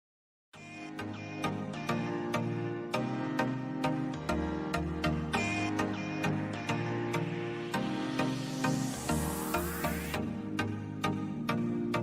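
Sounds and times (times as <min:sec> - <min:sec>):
background music with sustained chords: 0:00.6 - 0:12.0.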